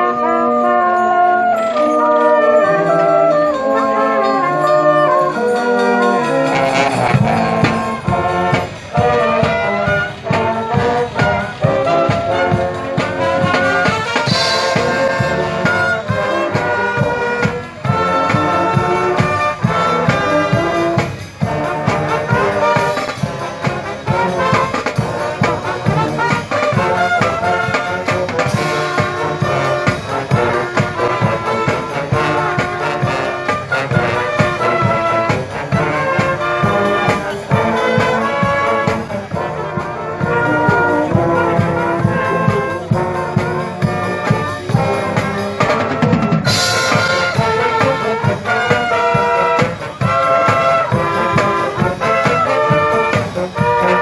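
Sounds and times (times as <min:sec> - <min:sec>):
trumpets and trombones playing: 0:00.0 - 0:54.0
marching drums: 0:02.2 - 0:54.0.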